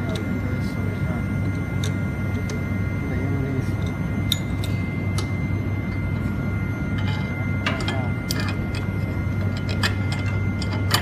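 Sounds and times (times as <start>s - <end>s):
drilling machine humming and whining: 0.0s - 11.0s.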